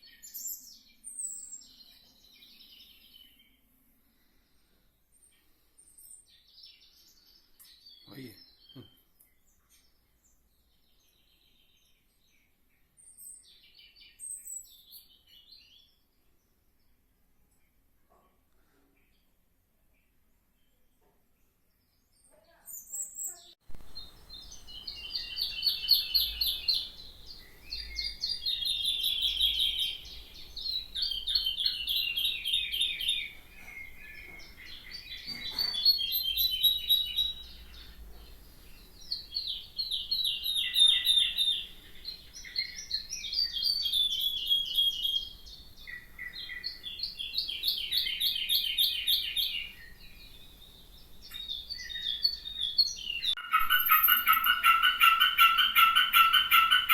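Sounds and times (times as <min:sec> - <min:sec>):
songbird singing: 0:00.0 - 0:17.9, 0:19.0 - 0:56.9.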